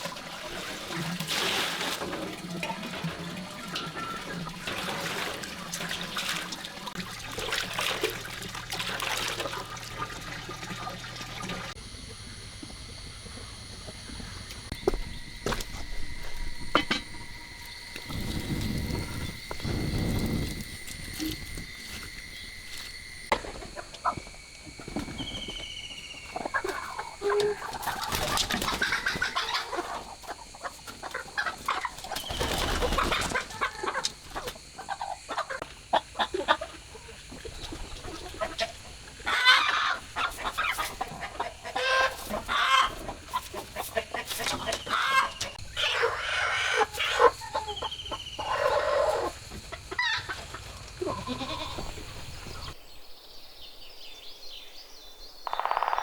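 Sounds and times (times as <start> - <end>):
chickens clucking: 0.0 - 52.8.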